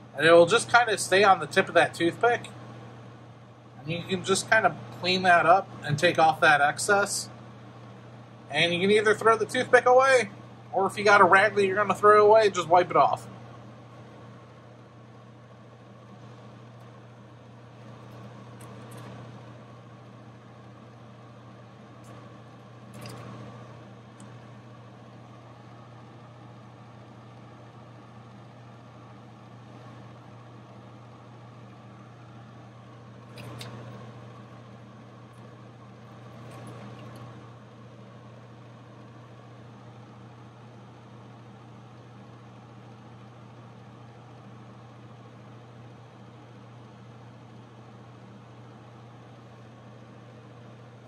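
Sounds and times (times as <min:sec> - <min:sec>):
equipment low hum: 0:00.0 - 0:51.0.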